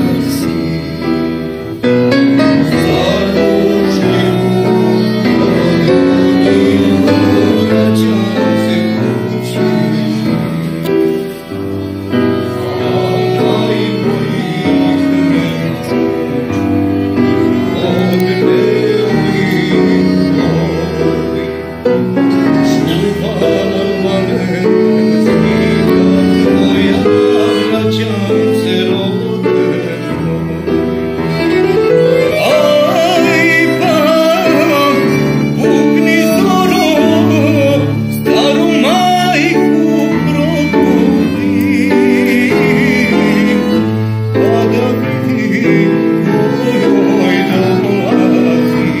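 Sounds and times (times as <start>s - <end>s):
keyboard chords: 0.0s - 49.0s
man singing: 0.0s - 49.0s
violin: 0.0s - 49.0s.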